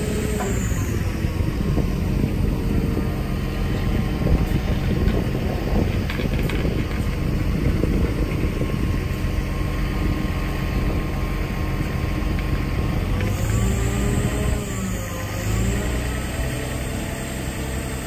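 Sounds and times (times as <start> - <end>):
diesel engine running: 0.0 - 18.0
wind buffeting microphone: 0.0 - 18.0.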